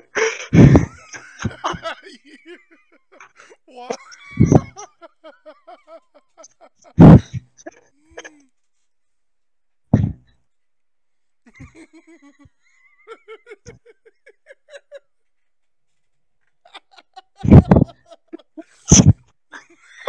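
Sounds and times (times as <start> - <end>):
stifled laughter: 0.0 - 8.5, 11.5 - 20.0.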